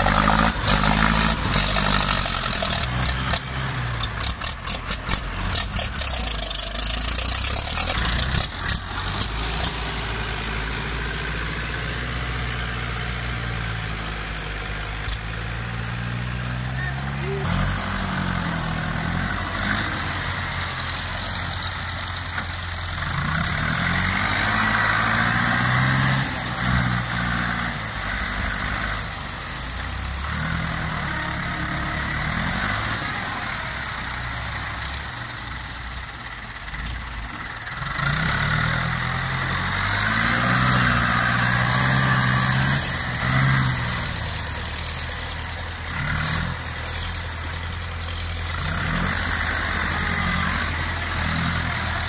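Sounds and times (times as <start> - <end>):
tractor diesel engine under load: 0.0 - 52.0.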